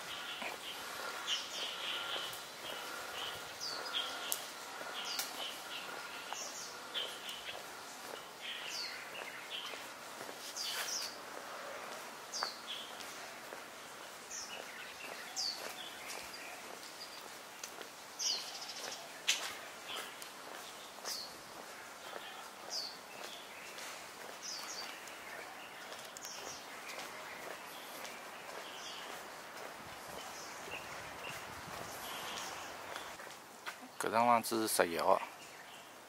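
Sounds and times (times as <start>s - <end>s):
birds twittering: 0.0s - 33.3s, 34.0s - 36.0s
faint background noise: 0.0s - 36.0s.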